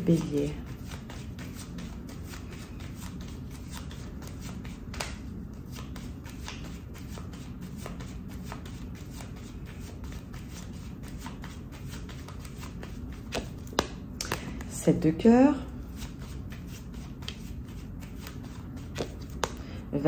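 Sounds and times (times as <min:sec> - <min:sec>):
playing cards shuffled by hand: 0:00.0 - 0:14.7, 0:15.9 - 0:19.7.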